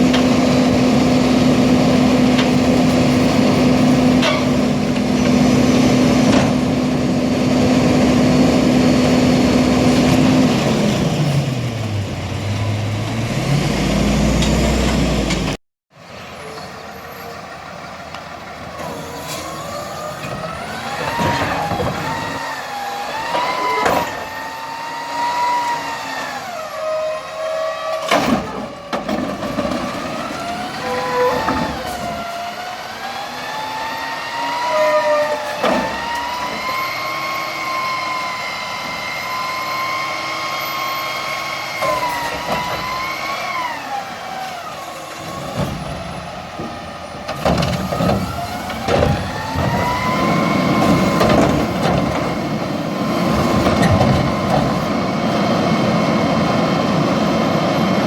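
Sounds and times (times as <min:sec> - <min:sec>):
garbage truck engine: 0:00.0 - 0:58.0.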